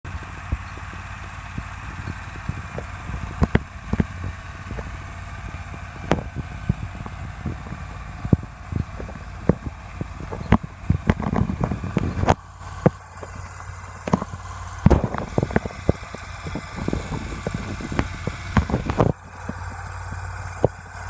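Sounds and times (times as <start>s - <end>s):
mower engine running: 0.0s - 21.0s
wind on microphone: 0.5s - 12.4s, 14.1s - 19.5s.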